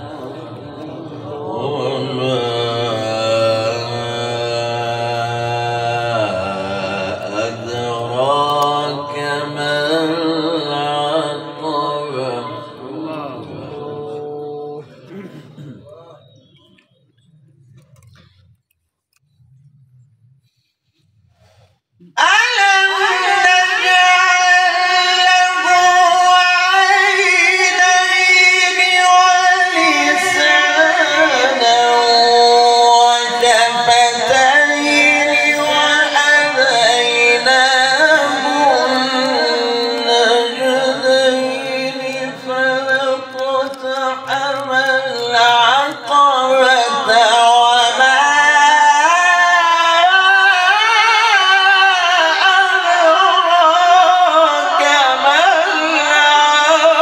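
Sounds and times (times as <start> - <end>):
man reciting melodically: 0.0 - 18.2, 22.0 - 57.0.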